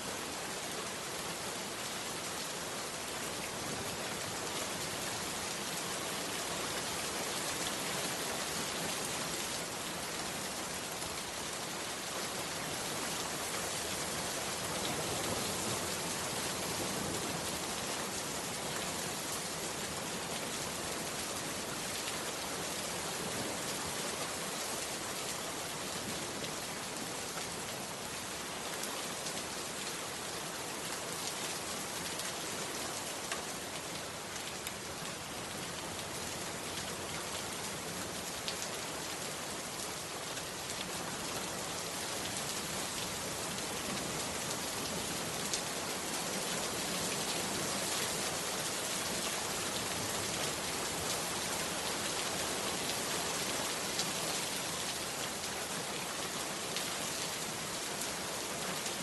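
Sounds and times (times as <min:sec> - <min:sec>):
heavy rain falling: 0:00.1 - 0:59.0.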